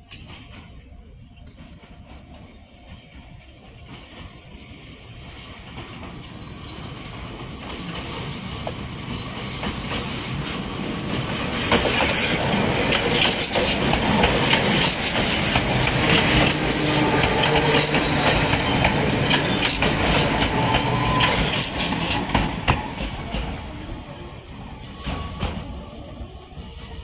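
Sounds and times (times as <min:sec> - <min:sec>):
train wheels clicking over rail joints: 0:00.0 - 0:27.0.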